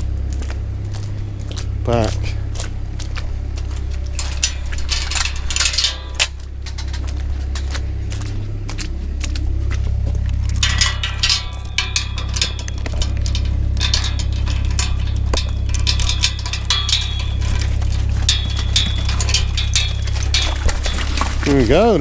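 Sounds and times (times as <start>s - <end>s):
steady low hum: 0.0s - 22.0s
metallic clinking and rattling: 4.0s - 22.0s.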